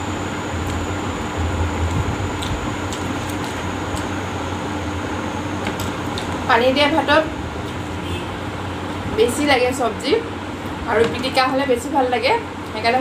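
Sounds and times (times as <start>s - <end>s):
electric fan whooshing hum: 0.0s - 13.0s.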